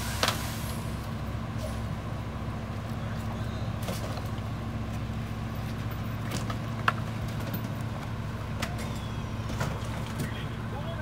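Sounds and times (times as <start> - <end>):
garbage truck diesel engine running: 0.0 - 11.0.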